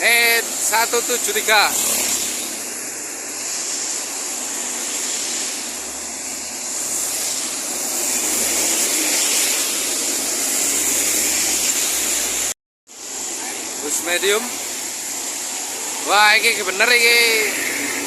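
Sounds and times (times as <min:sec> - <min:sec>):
tyre hiss on wet road: 0:00.0 - 0:18.0.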